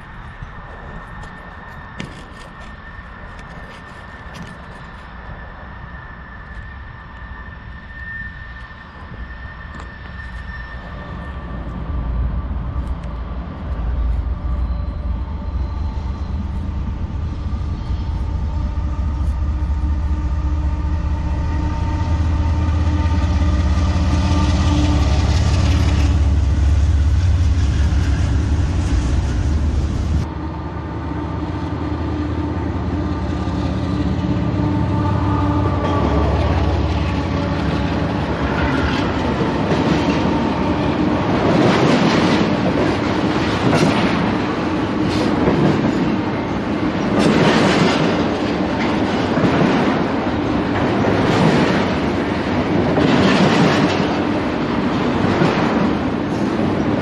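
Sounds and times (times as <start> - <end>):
diesel locomotive rumble: 0.0 - 57.0
freight train rolling past: 0.0 - 57.0.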